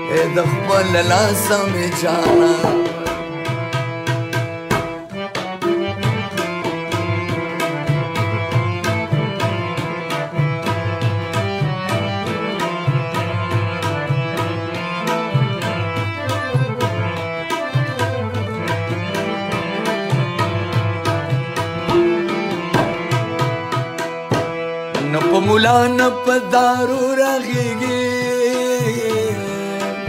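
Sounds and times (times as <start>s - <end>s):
harmonium melody: 0.0s - 30.0s
tabla rhythm: 0.0s - 30.0s.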